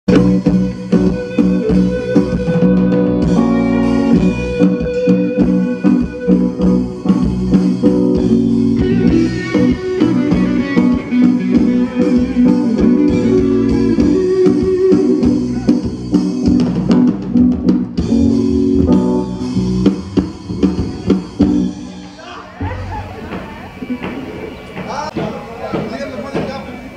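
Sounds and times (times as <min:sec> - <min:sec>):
band music: 0:00.1 - 0:26.9.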